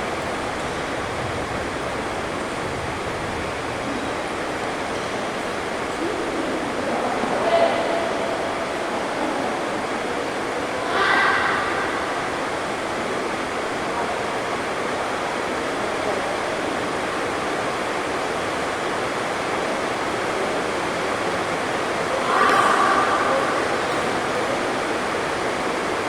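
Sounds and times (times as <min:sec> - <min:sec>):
heavy rain drumming on roof: 0:00.0 - 0:07.4, 0:08.1 - 0:26.0
voices: 0:03.6 - 0:26.0.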